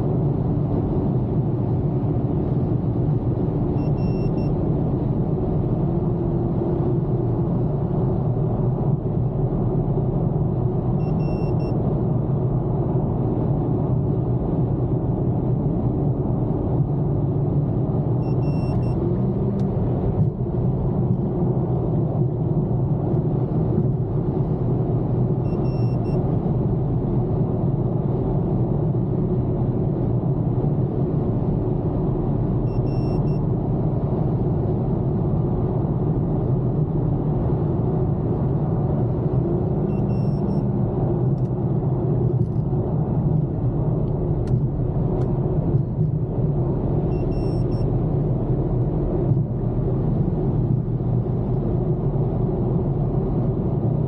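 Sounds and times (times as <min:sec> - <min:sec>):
car road noise at highway speed: 0:00.0 - 0:54.0.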